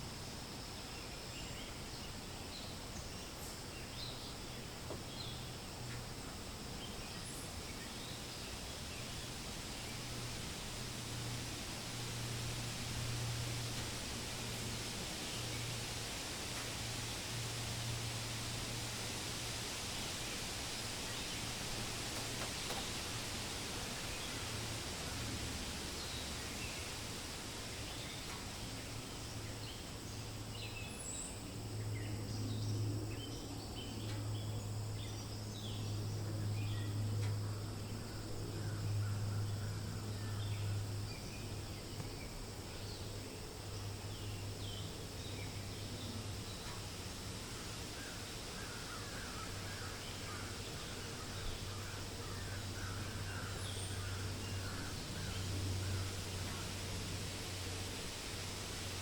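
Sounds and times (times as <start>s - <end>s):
low rumble of wind: 0.0s - 59.0s.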